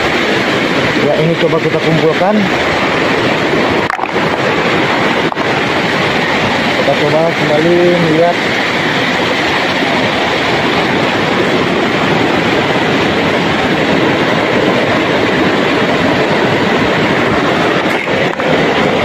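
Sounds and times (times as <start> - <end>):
water flowing over rocks: 0.0 - 19.0.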